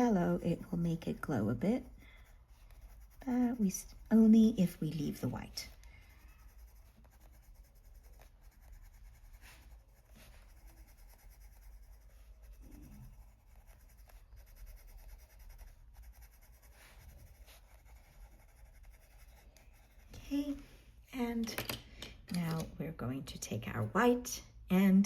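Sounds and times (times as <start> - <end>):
pencil scratching on paper: 0.0 - 20.7
low room hum: 0.0 - 25.0.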